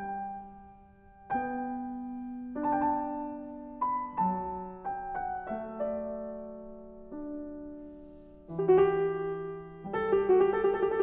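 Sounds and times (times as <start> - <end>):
slow solo piano music: 0.0 - 11.0.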